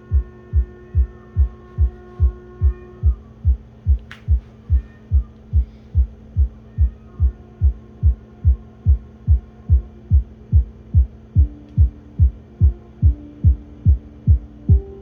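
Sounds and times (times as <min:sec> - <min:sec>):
low synth drones: 0:00.0 - 0:15.0
kick drum thumping: 0:00.1 - 0:15.0.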